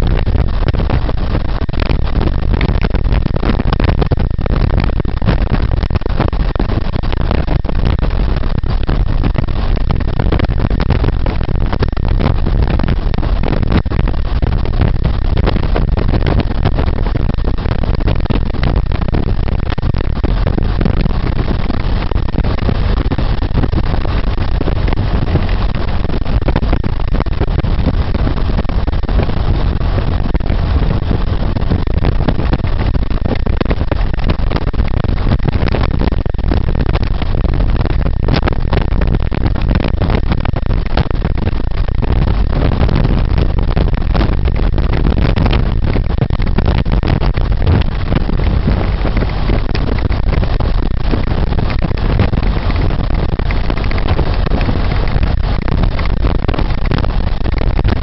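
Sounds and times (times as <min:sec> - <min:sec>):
car engine running: 0:00.0 - 0:55.8.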